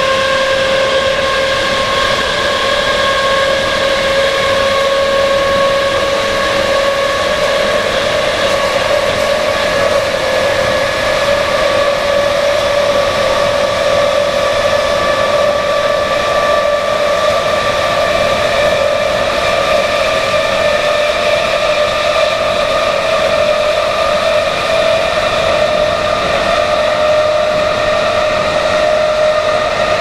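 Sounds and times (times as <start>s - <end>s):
rail noise: 0.0s - 30.0s
train traction motors whining: 0.0s - 30.0s.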